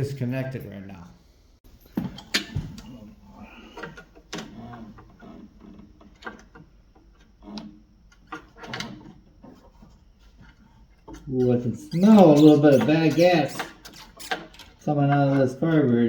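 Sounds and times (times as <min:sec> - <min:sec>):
hand tools clicking and knocking: 0:01.8 - 0:16.0.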